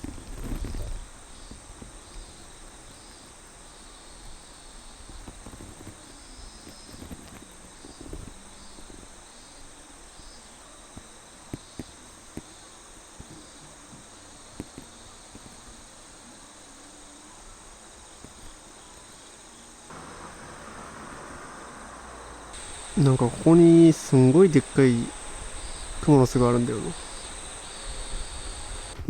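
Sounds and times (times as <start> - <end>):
background hiss: 0.0 - 29.0
crickets chirping: 0.0 - 29.0
pulsed insect calls: 0.0 - 29.0.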